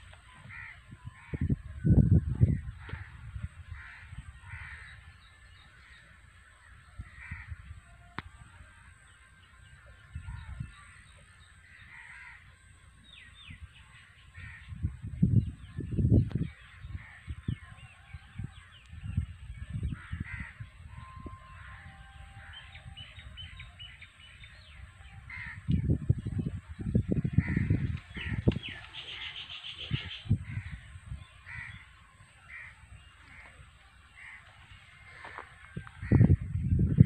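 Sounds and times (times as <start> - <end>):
low buffeting on microphone: 0.0 - 12.2, 12.8 - 37.0
birds calling and chirping: 0.0 - 37.0.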